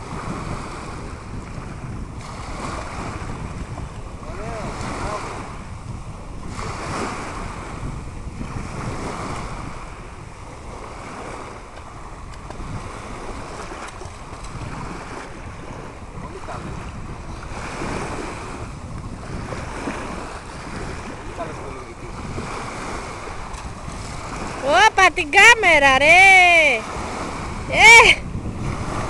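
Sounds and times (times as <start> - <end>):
small waves washing in: 0.0 - 29.0
wind rumbling on microphone: 0.0 - 29.0.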